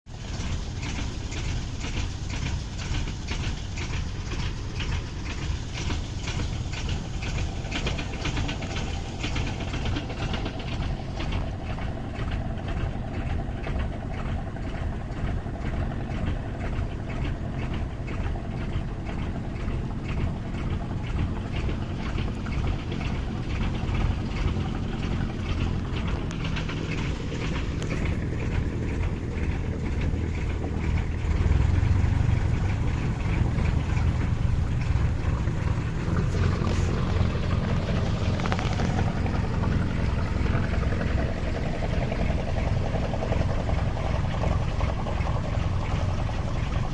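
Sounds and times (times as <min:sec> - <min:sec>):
motor boat engine running: 0:00.0 - 0:46.9.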